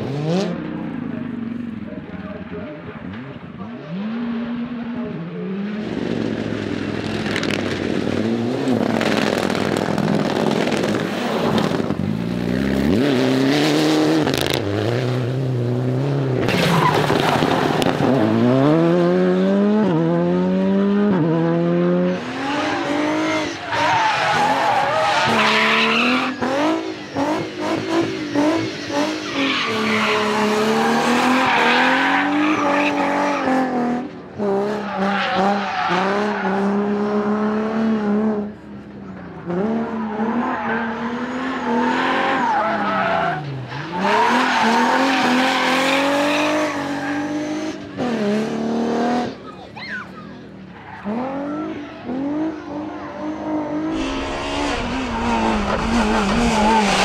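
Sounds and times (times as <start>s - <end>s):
rally car engine revving: 0.0s - 38.6s, 39.2s - 49.5s, 50.9s - 57.0s.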